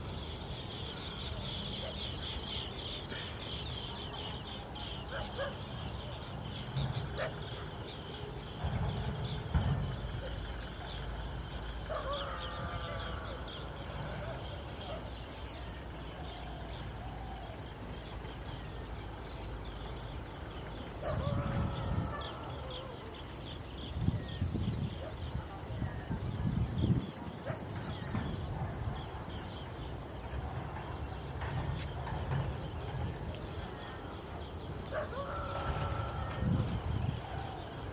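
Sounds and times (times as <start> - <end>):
insects trilling: 0.0 - 37.9.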